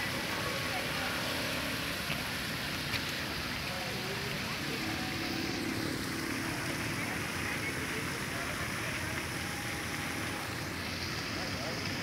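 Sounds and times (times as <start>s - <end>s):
fountain spraying water onto lake: 0.0s - 12.0s.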